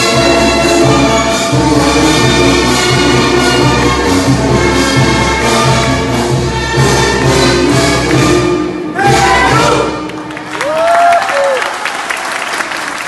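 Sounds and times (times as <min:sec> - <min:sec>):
orchestral music with brass: 0:00.0 - 0:10.6.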